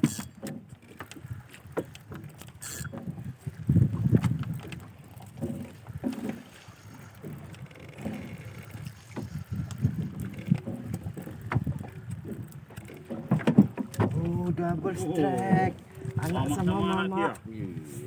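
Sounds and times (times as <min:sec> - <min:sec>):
water knocking on boat hull: 0:01.7 - 0:06.6, 0:07.2 - 0:16.7.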